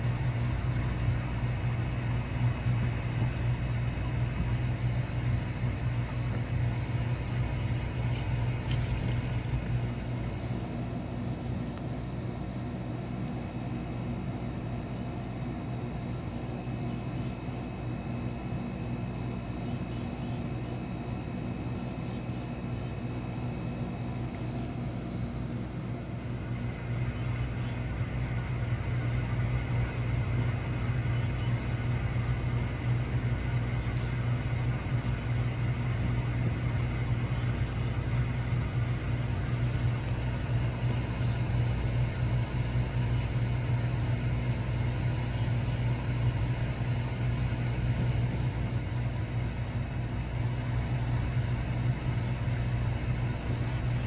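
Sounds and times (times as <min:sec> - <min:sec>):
low rumble with a hum: 0:00.0 - 0:54.0.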